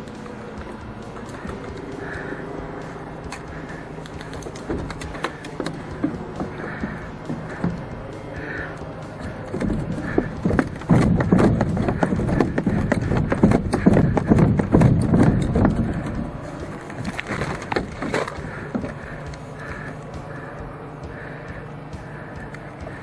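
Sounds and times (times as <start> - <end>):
footsteps running on rough ground: 0.0 - 23.0.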